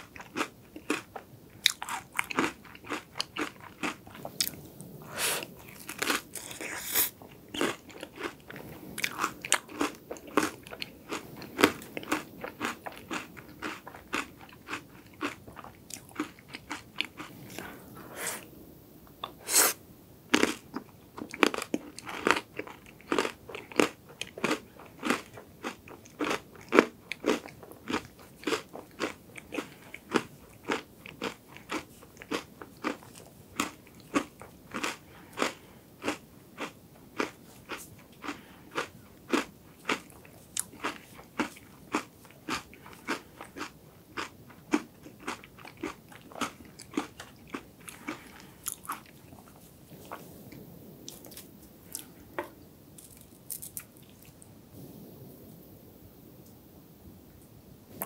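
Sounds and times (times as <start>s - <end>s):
crunching and chewing: 0.0s - 18.5s, 20.3s - 54.5s.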